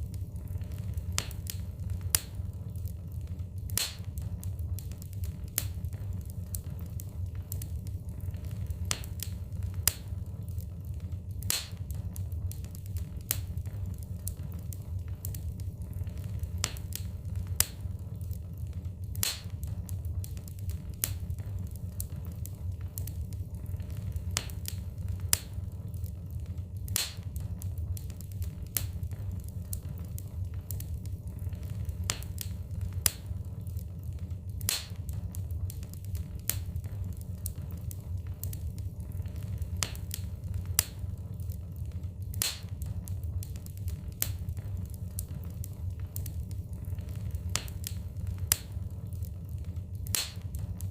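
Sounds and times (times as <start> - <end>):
fire low rumble: 0.0 - 50.9
logs crackling and popping: 0.0 - 50.9.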